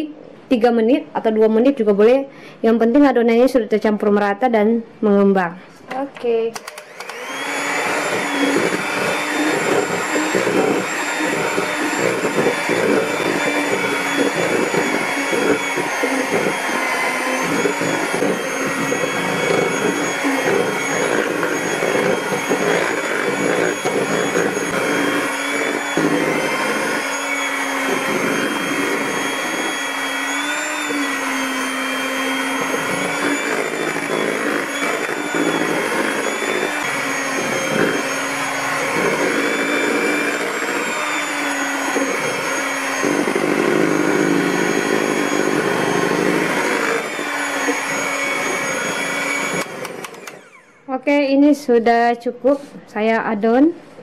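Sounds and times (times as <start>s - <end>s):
beaters churning thick batter: 6.6s - 51.1s
electric hand mixer whining: 6.6s - 51.3s.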